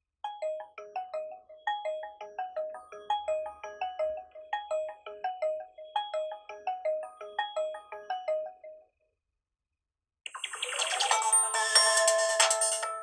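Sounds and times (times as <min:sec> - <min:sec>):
phone ringtone melody: 0:00.3 - 0:08.8, 0:10.3 - 0:13.0.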